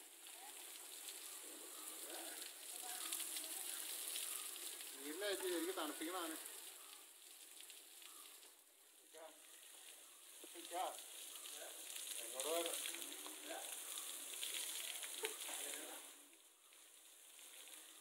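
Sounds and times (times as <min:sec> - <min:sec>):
water spray hissing: 0:00.0 - 0:18.0.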